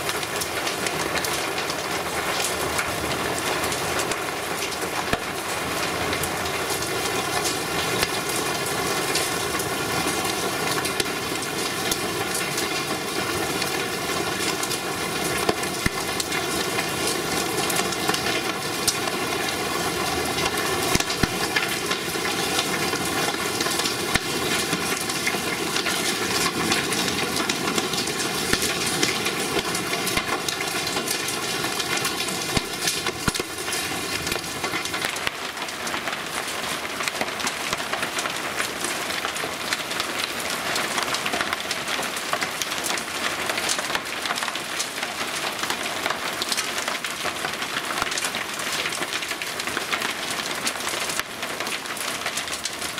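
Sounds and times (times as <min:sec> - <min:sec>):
heavy rain downpour: 0:00.0 - 0:52.9.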